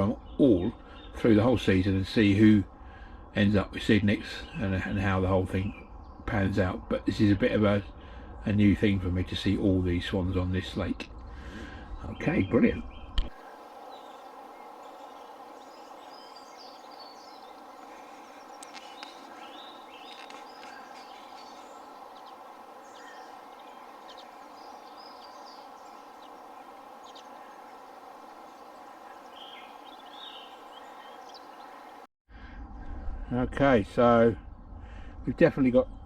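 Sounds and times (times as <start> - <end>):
small birds chirping and singing: 0.0 - 32.1
outdoor ambience hiss: 0.0 - 36.0.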